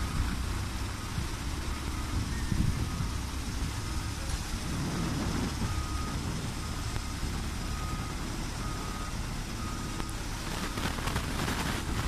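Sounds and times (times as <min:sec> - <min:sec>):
machine engine rumbling: 0:00.0 - 0:12.0.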